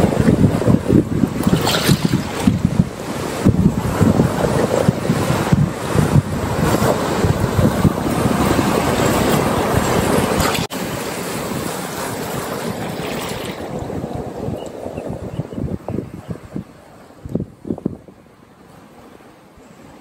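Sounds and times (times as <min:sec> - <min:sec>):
wind buffeting microphone: 0:00.0 - 0:19.1
moving water: 0:00.0 - 0:20.0.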